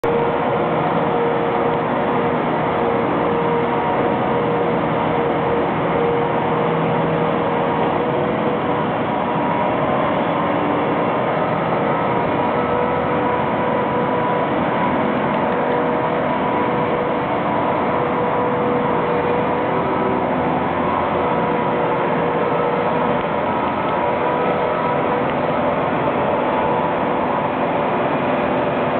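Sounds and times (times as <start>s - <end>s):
machinery whine: 0.0s - 28.9s
tractor engine running: 0.0s - 28.9s.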